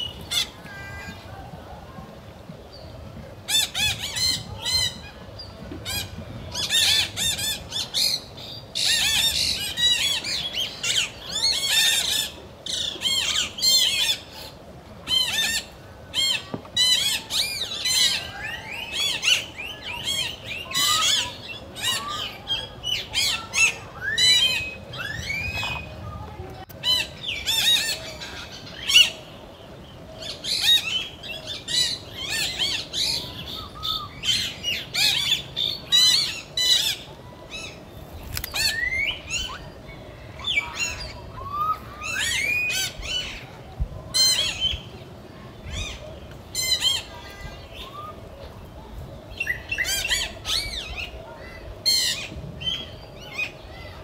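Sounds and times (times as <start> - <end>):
birds calling: 0.0 - 2.0, 2.7 - 54.0.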